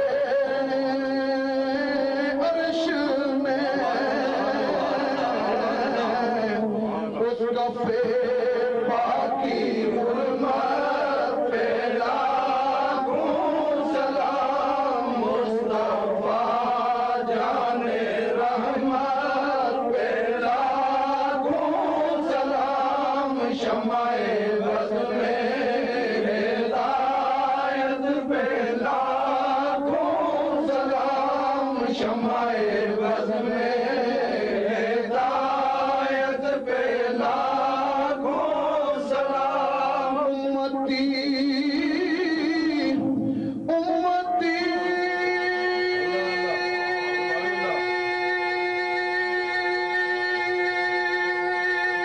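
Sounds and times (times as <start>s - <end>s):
devotional chanting voices: 0.0s - 52.0s.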